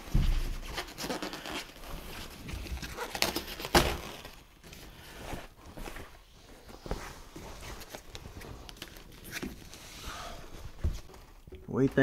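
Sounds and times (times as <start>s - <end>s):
foam packing wrap rustling: 0.0s - 11.4s.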